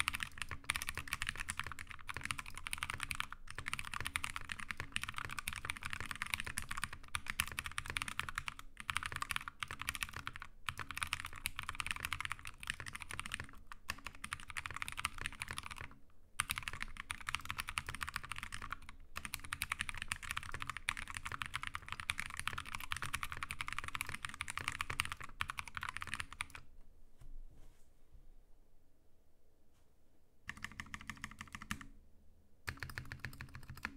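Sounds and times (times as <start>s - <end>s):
mechanical keyboard typing: 0.0s - 26.6s, 30.5s - 31.9s, 32.7s - 33.9s.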